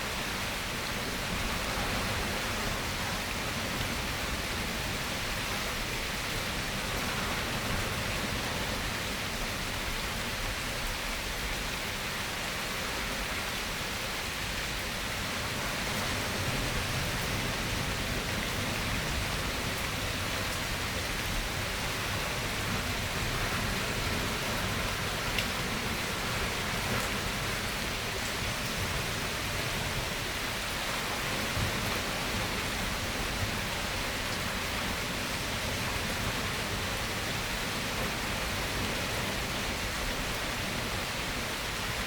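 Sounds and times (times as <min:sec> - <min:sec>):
steady rain hiss: 0:00.0 - 0:42.0.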